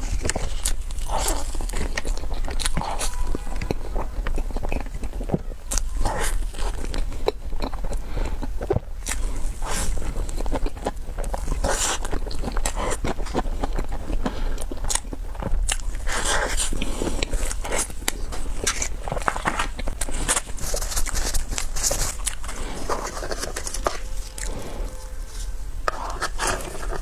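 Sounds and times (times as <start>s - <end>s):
person chewing crunchy dessert: 0.0s - 27.0s.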